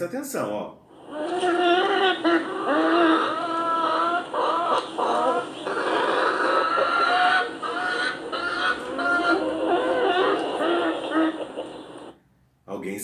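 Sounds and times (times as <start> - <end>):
hen clucking: 1.0 - 12.2.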